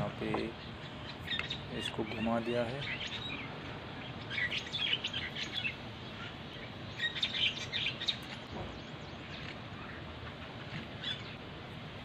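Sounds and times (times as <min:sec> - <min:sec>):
background hiss: 0:00.0 - 0:12.0
small birds chirping: 0:00.0 - 0:12.0.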